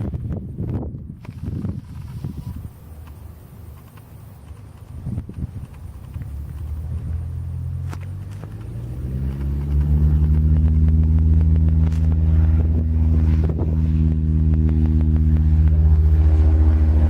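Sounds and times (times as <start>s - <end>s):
engine running: 1.2s - 17.0s.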